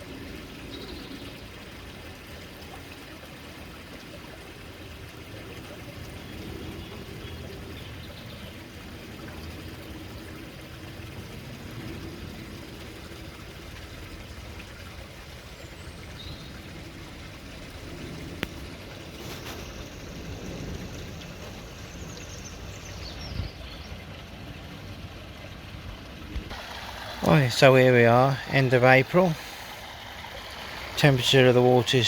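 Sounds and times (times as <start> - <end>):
water trickling into pond: 0.0 - 32.0.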